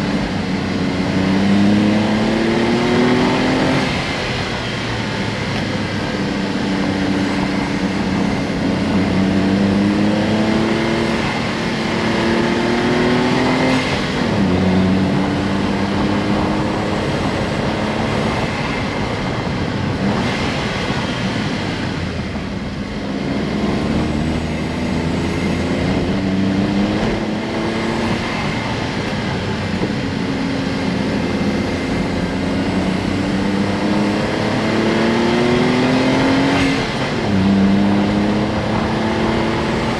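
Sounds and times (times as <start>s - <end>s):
car engine accelerating: 0.0s - 39.9s
road noise: 0.0s - 39.9s.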